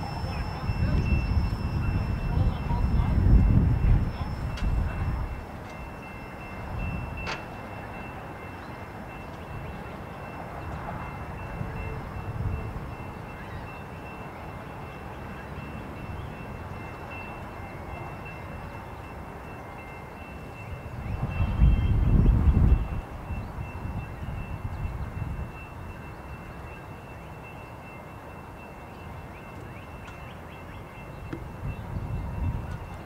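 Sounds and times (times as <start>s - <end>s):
freight train wheels rumbling: 0.0s - 33.0s
high-pitched ringing: 0.0s - 33.0s.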